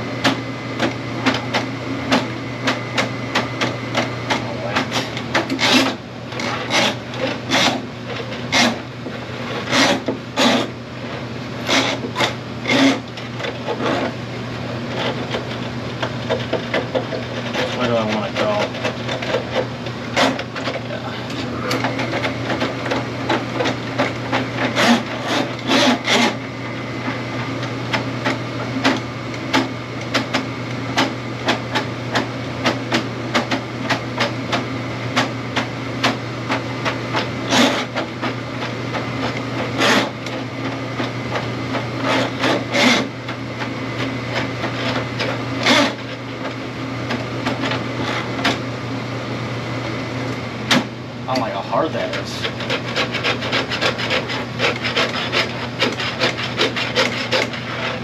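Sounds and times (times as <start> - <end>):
drain-cleaning machine humming: 0.0 - 58.0.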